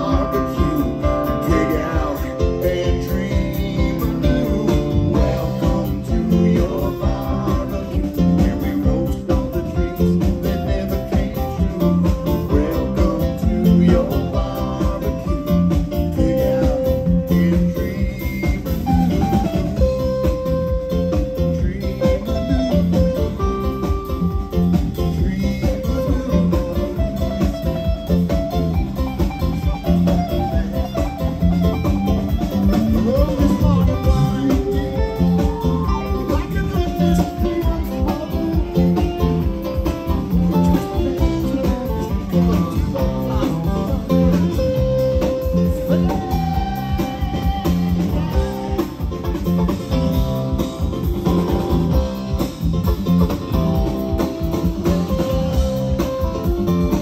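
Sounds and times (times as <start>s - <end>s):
bass: 0.0s - 57.0s
drums keeping a steady beat: 0.0s - 57.0s
guitar melody: 0.0s - 57.0s.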